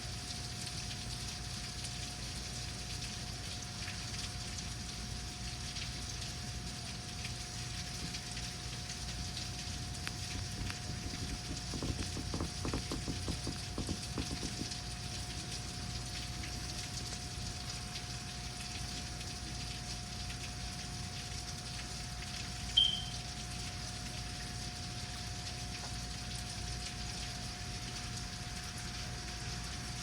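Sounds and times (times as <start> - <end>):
faint steady hum: 0.0 - 30.0
rain falling: 0.0 - 30.0.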